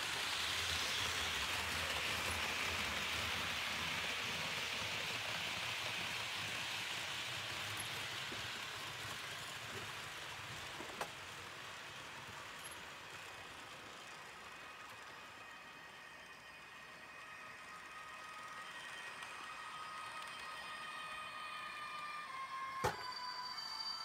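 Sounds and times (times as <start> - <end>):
model train wheels and motor: 0.0 - 24.0.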